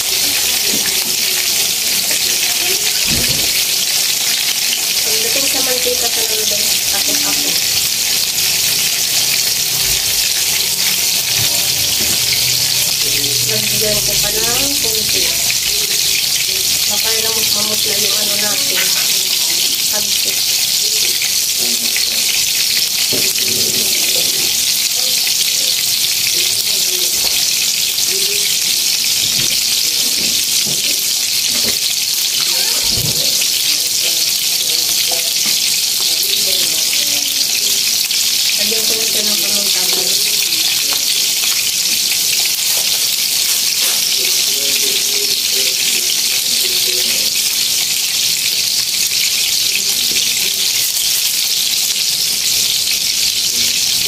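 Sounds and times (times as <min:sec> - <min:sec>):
sauce sizzling and bubbling in wok: 0:00.0 - 0:54.0.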